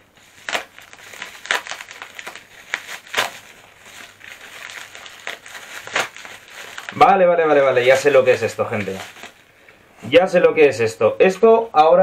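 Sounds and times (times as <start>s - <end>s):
bubble wrap crackling: 0.0s - 12.0s.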